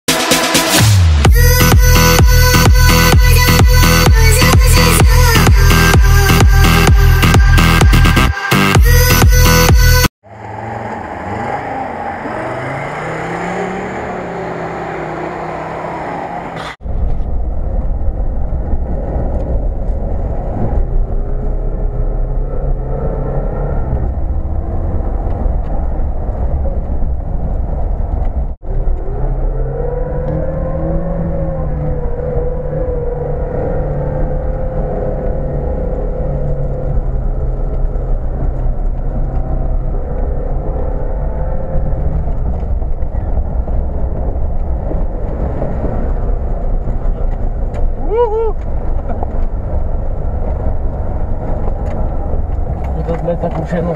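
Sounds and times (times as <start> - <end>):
vehicle engine pulling hard: 0.8 - 53.9.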